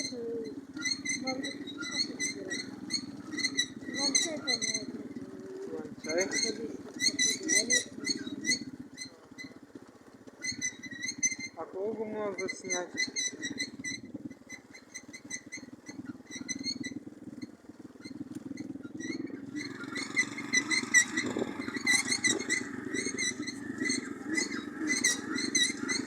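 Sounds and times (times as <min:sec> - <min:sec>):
high-pitched chirping squeaks: 0:00.0 - 0:09.6, 0:10.4 - 0:17.0, 0:18.8 - 0:26.0
moped engine running: 0:00.0 - 0:26.0.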